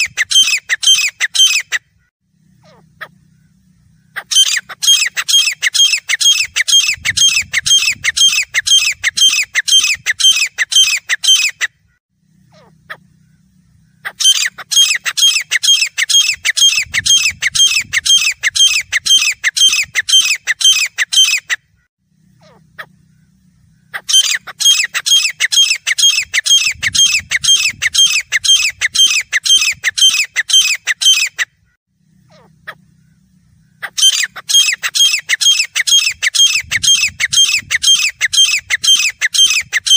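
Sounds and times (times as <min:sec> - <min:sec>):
bird calling shrill notes: 0:00.0 - 0:39.9.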